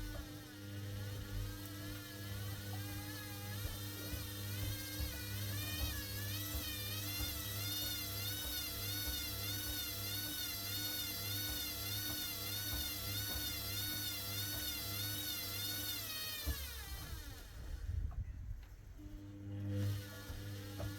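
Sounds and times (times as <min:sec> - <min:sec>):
washer drum motor whining: 0:00.0 - 0:18.3, 0:18.9 - 0:20.9.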